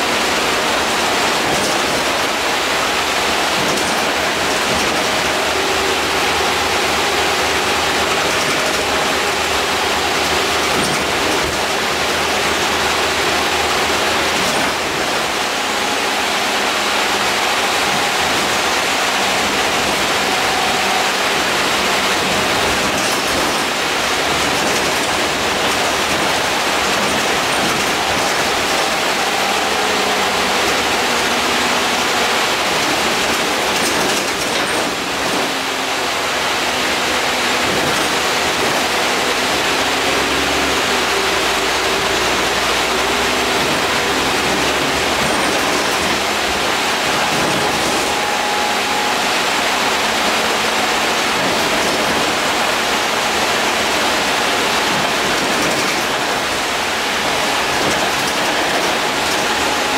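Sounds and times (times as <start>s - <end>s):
bus engine and drivetrain tones: 0.0s - 59.9s
road and air-conditioning rushing: 0.0s - 59.9s.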